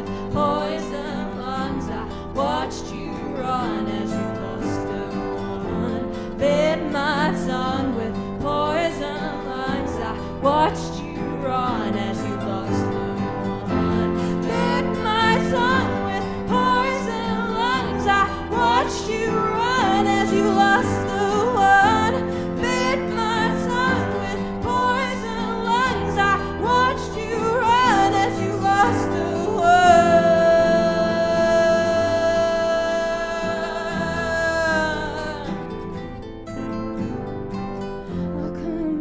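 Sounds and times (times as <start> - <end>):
woman singing with vibrato: 0.0 - 36.0, 38.1 - 39.0
acoustic guitar chords: 0.0 - 39.0.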